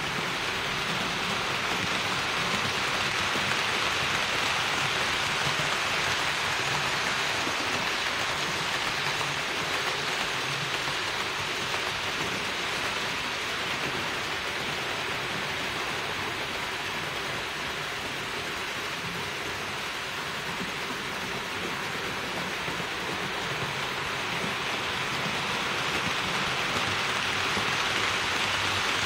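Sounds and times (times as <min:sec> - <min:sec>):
model train wheels rattling: 0:00.0 - 0:29.0.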